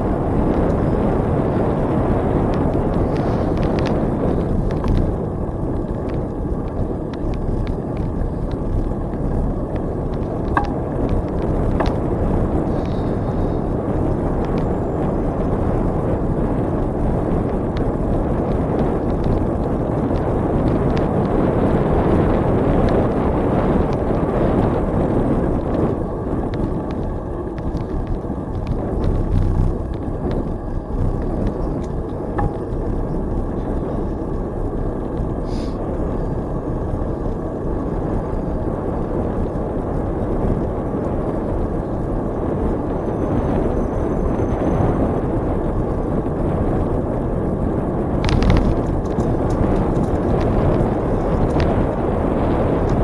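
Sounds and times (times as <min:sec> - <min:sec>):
bicycle tyre noise: 0:00.0 - 0:53.0
wind on microphone: 0:00.0 - 0:53.0.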